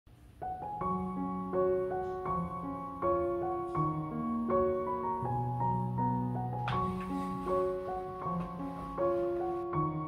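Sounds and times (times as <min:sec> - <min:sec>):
gentle piano melody: 0:00.2 - 0:10.0.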